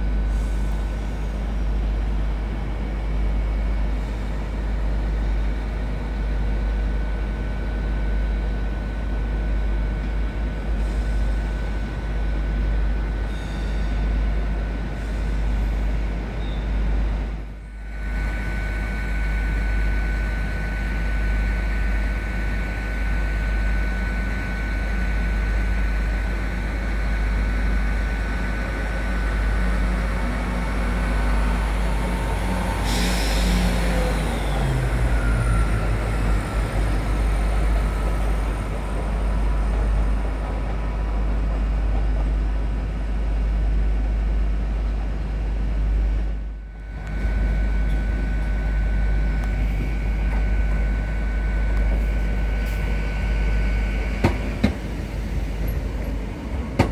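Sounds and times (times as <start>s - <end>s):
constant high whine: 0.0s - 56.9s
train engine running: 0.0s - 56.9s.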